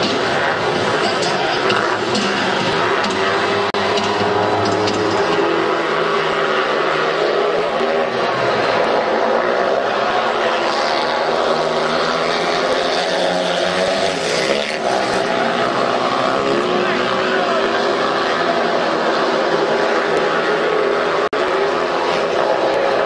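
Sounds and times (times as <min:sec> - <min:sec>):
motorbikes racing: 0:00.0 - 0:23.0.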